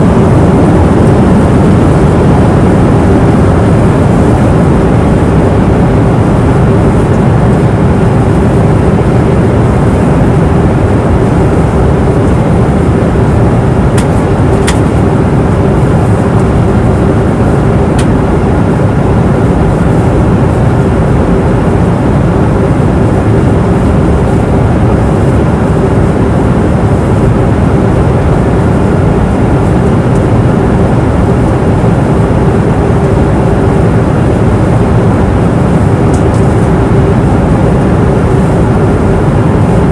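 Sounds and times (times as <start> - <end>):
air and engine rush: 0.0 - 39.9
constant hum tone: 0.0 - 39.9.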